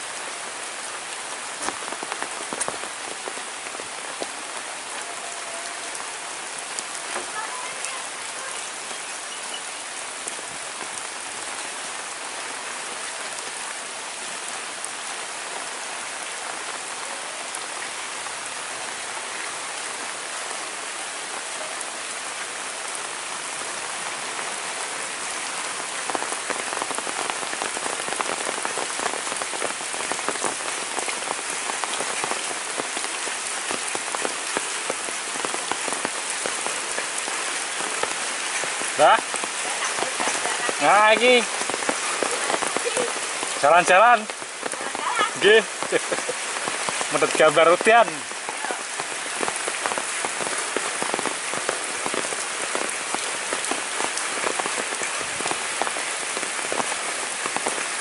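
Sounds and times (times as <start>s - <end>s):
rain falling on paving: 0.0s - 58.0s.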